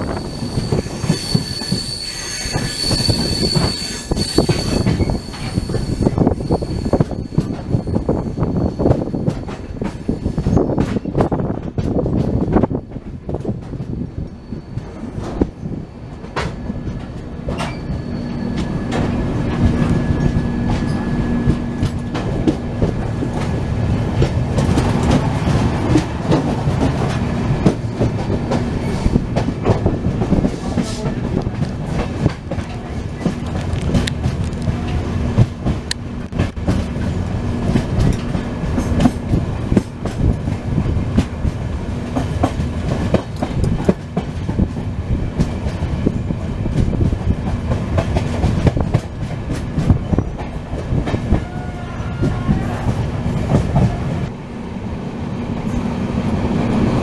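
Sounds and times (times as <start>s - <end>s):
train wheels clattering over joints: 0.0s - 14.1s, 14.7s - 54.3s
train rumble: 0.0s - 57.0s.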